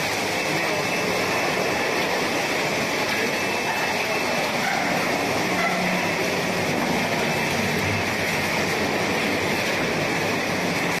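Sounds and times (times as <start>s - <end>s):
machinery rattling and humming: 0.0s - 11.0s.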